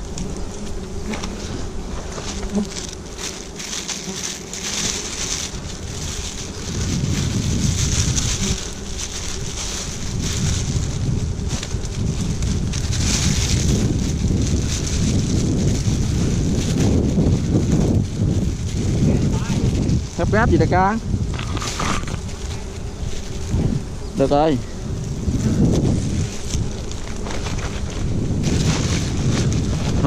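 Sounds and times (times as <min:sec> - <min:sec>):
bees buzzing: 0:00.0 - 0:30.0
wind rumble on microphone: 0:00.0 - 0:30.0
plastic bag crinkling: 0:01.9 - 0:24.3, 0:25.6 - 0:30.0.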